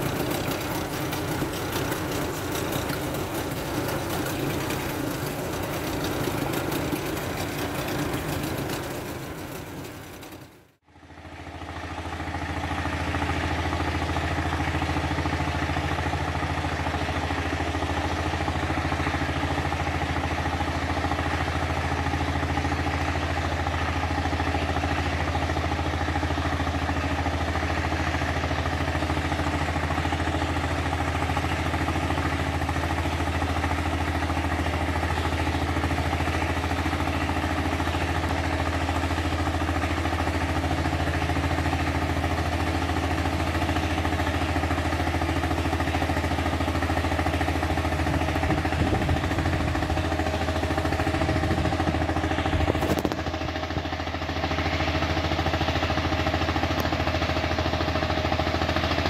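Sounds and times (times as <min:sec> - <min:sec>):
tugboat engine droning: 0:00.0 - 0:59.0.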